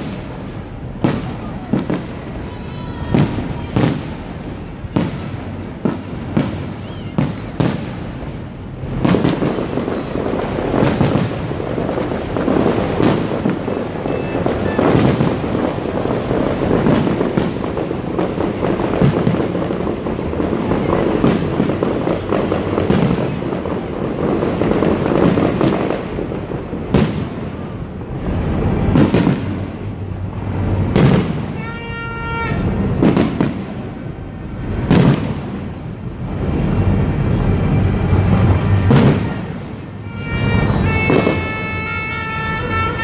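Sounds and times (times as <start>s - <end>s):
fireworks bangs and booms: 0.0s - 43.0s.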